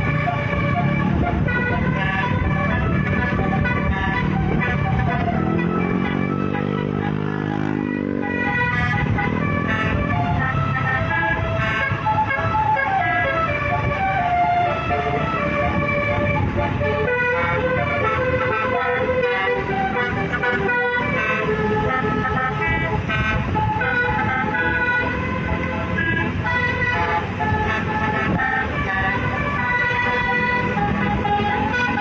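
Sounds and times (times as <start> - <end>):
bus musical horns: 0.0 - 32.0.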